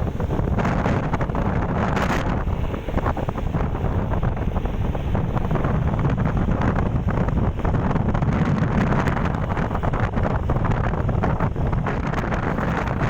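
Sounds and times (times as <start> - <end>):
motorcycle road noise: 0.0 - 13.0
wind buffeting microphone: 0.0 - 13.0.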